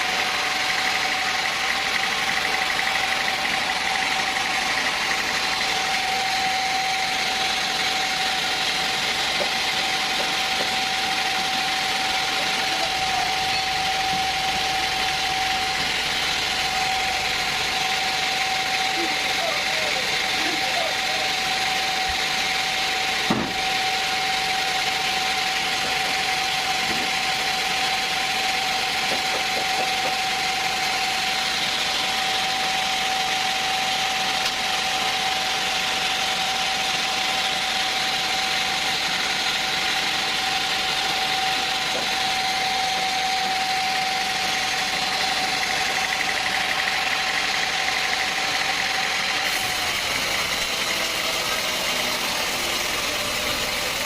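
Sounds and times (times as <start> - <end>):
high mechanical whine: 0.0 - 54.0
sawmill machinery running: 0.0 - 54.0.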